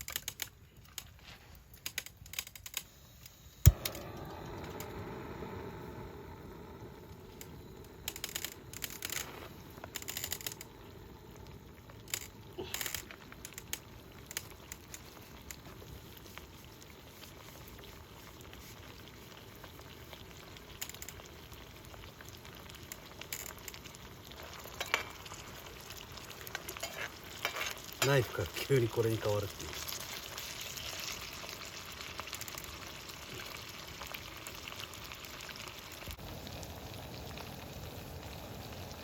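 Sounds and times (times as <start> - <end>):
food sizzling in a pan: 3.7 - 39.0.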